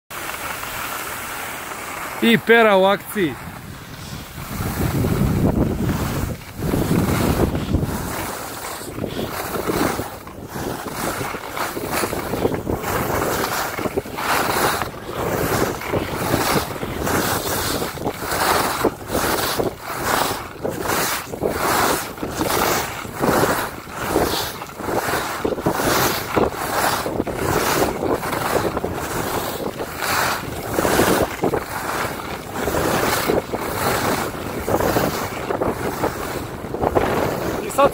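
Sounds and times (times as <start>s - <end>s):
skis carving on packed snow: 0.1s - 37.9s
wind rushing over microphone: 2.2s - 37.9s.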